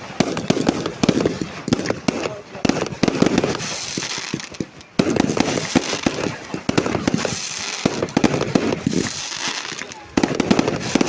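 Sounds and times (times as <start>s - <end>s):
fireworks bangs and crackling: 0.0s - 11.0s
fireworks hiss: 0.0s - 11.0s.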